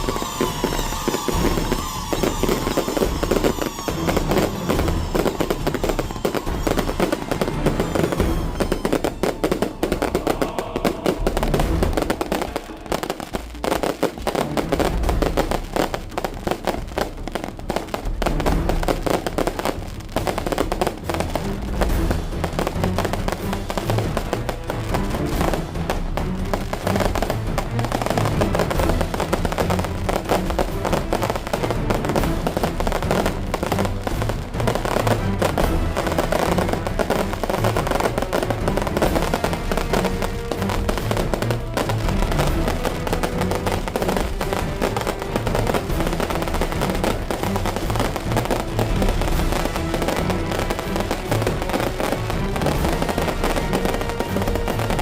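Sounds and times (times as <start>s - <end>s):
firecrackers crackling: 0.0s - 55.0s
music playing: 0.0s - 55.0s.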